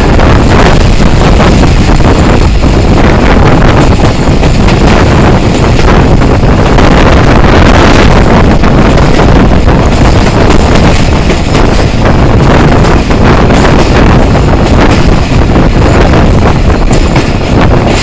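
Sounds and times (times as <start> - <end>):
train running on track: 0.0 - 18.0
wind buffeting microphone: 0.0 - 18.0.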